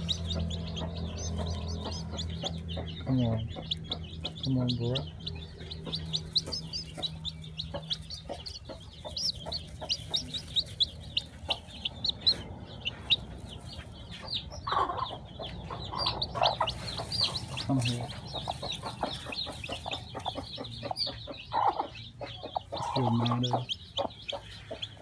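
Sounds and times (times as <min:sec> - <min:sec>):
chick peeping: 0:00.0 - 0:25.0.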